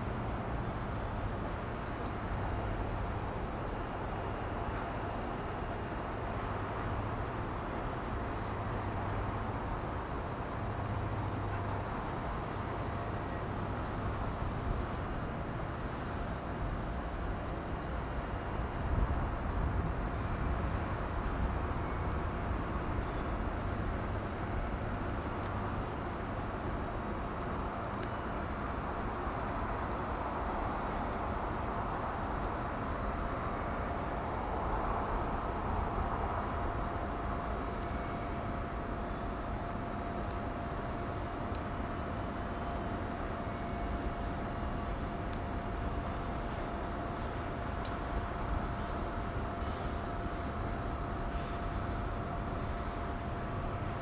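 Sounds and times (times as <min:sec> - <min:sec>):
distant machinery hum: 0:00.0 - 0:54.0.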